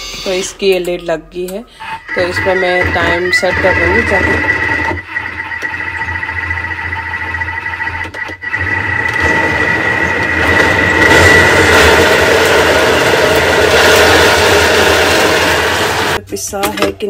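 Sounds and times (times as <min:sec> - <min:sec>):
food processor motor grinding: 0:02.0 - 0:16.2.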